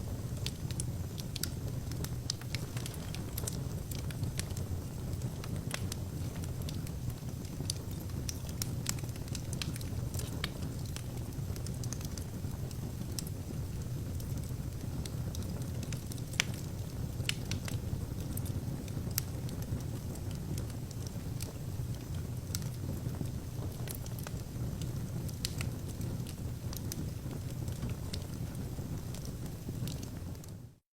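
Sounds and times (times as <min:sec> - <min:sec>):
fire roaring: 0:00.0 - 0:30.4
logs crackling and popping: 0:00.2 - 0:30.5.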